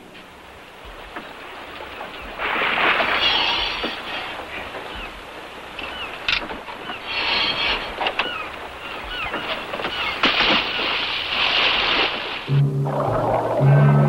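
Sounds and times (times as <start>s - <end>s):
sea water splashing: 0.4s - 14.0s.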